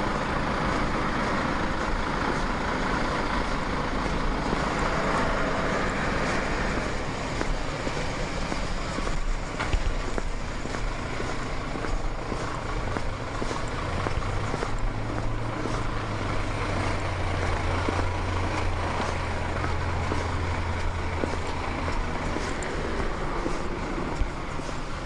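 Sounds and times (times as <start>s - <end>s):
footsteps on wet asphalt: 0.0s - 25.0s
traffic engine drone: 0.0s - 25.0s.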